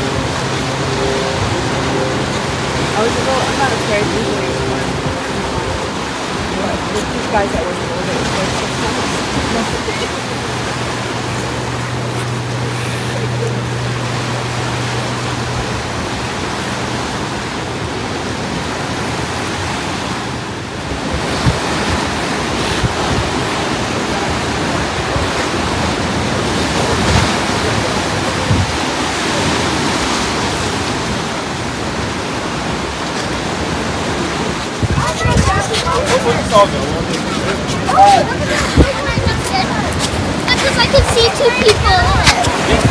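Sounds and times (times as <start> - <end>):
surf washing up beach: 0.0 - 42.9
wind buffeting microphone: 0.0 - 42.9.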